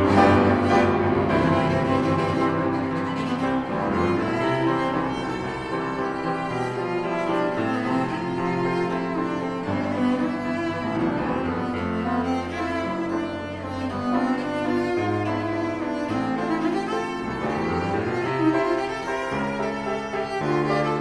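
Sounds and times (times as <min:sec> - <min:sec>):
cello: 0:00.0 - 0:21.0
piano: 0:00.0 - 0:21.0.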